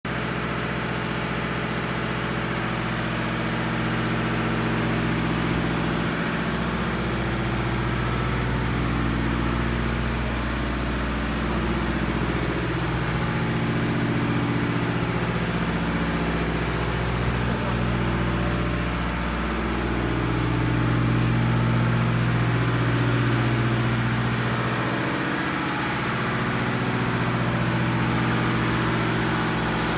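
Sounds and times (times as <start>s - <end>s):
diesel engine running: 0.1s - 29.9s.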